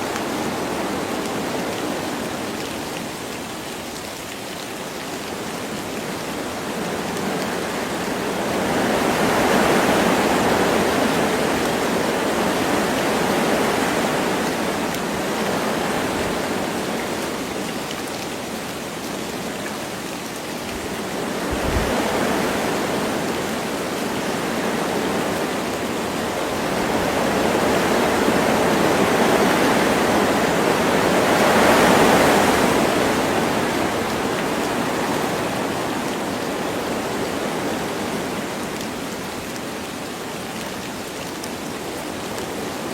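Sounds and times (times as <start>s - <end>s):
light rain: 0.0s - 42.9s
wind gusting through trees: 0.0s - 42.9s.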